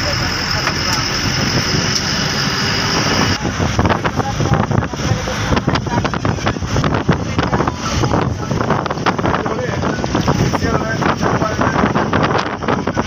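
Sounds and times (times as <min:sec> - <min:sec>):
bus engine and road noise: 0:00.0 - 0:13.0
wind buffeting microphone: 0:00.8 - 0:13.0.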